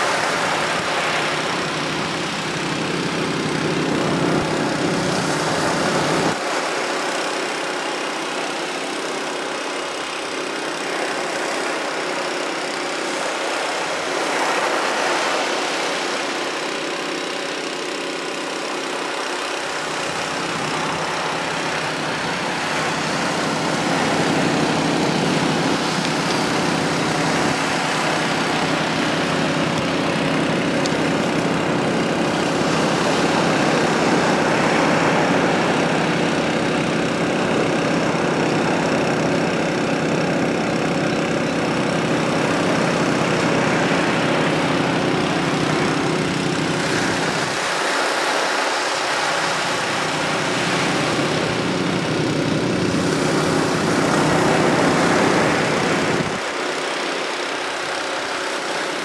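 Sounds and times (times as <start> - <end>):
low engine hum: 0.0 - 59.0
water rushing through sluice: 0.0 - 59.0.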